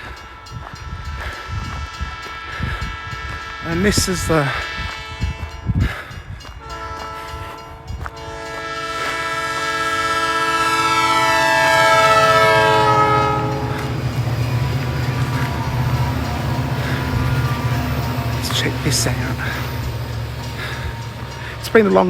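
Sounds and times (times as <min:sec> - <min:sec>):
train horn: 0:00.0 - 0:05.8, 0:06.6 - 0:21.8
train rumbling past: 0:00.0 - 0:22.0.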